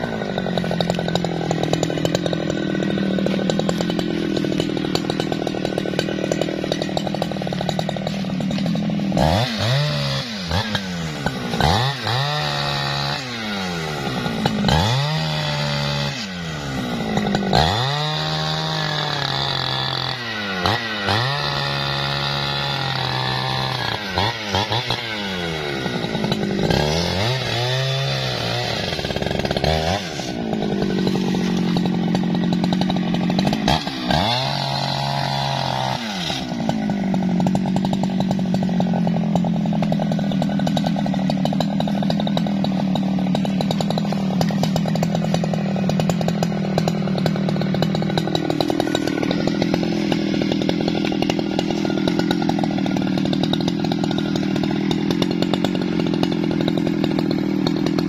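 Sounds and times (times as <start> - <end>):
chainsaw cutting branches: 0.0 - 58.0.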